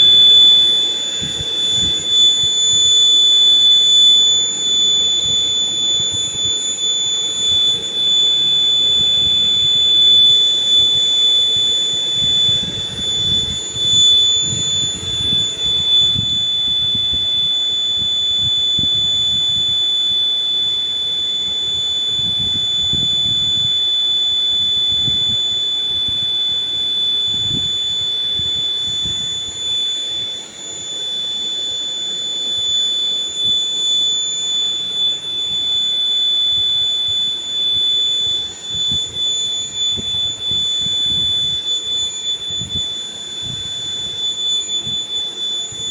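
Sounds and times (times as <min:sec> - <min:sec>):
electronic buzzer tone: 0:00.0 - 0:45.9.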